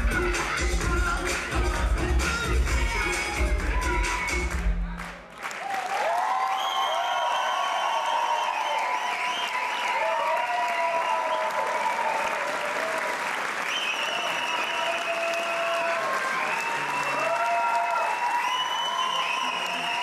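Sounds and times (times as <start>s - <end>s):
audience applauding: 3.6s - 20.0s.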